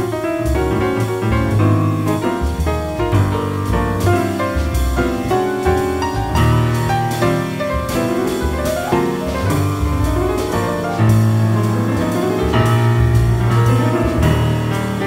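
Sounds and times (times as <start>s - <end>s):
jazz piano: 0.0s - 15.0s
upright bass: 0.0s - 15.0s.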